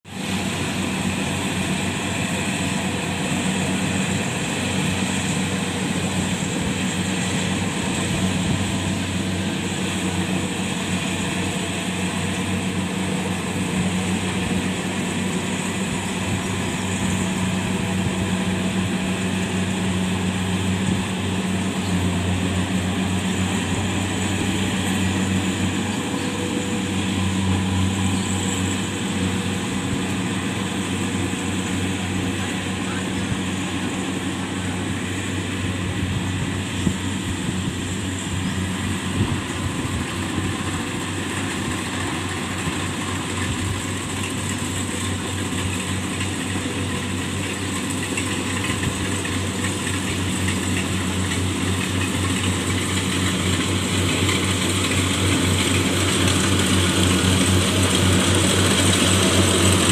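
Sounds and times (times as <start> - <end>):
harvester engine humming: 0.0 - 59.9.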